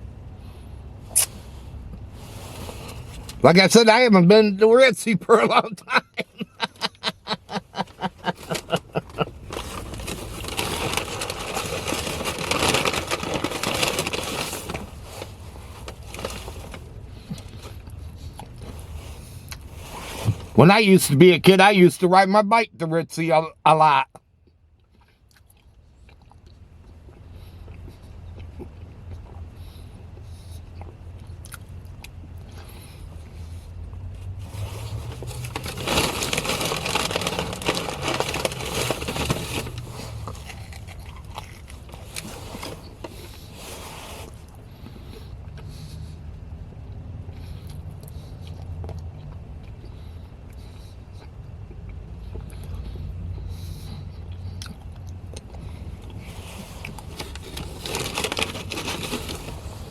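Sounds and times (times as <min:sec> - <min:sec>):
steady low hum: 0:00.0 - 0:59.9
biting and chewing food: 0:06.0 - 0:20.6, 0:24.2 - 0:59.9.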